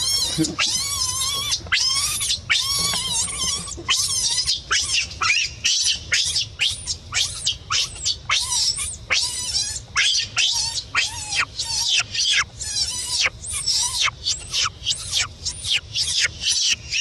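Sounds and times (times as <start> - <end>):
baby monkey screaming: 0.0 - 17.0.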